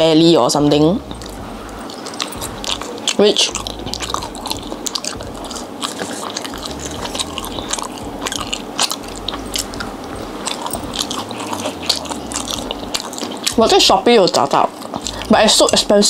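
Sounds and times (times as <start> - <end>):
person chewing crunchy food: 1.0 - 16.0.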